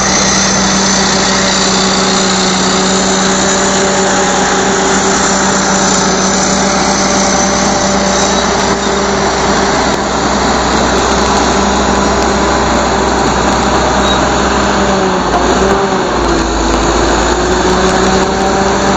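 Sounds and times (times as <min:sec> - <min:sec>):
bulldozer diesel engine running: 0:00.0 - 0:18.9.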